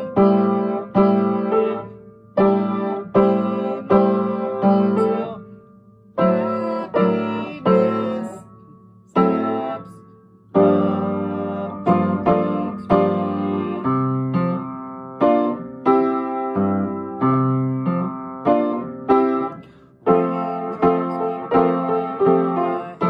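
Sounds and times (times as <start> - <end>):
piano chords ringing: 0.0 - 23.0.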